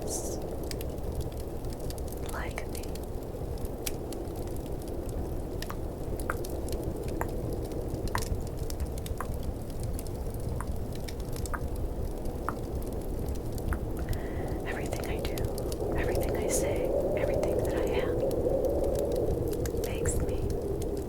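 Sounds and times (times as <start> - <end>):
fireplace crackling: 0.0 - 21.0
low snowstorm rumble: 0.0 - 21.0.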